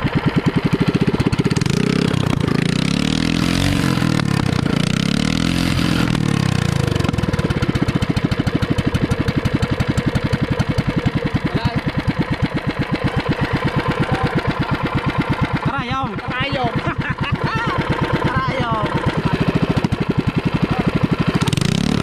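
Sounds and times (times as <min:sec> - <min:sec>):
small boat engine: 0:00.0 - 0:22.0.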